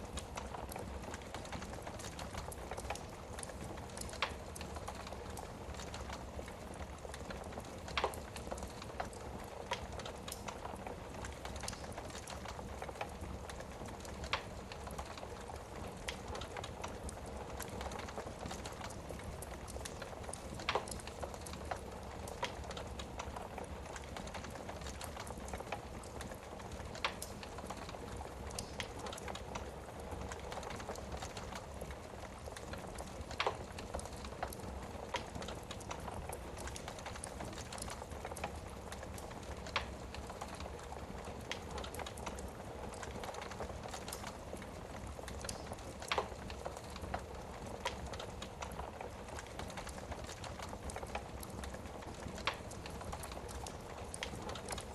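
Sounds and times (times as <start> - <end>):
wood fire crackling: 0.0 - 54.9
burning wood popping: 0.1 - 6.2, 6.8 - 54.9.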